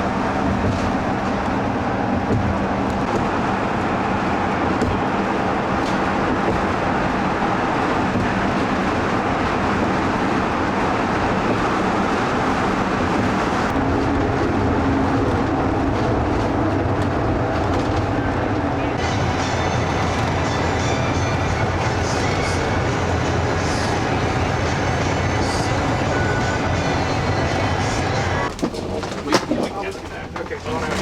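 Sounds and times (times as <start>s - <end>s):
low hum: 0.0s - 31.0s
moving vehicle running noise: 0.0s - 31.0s.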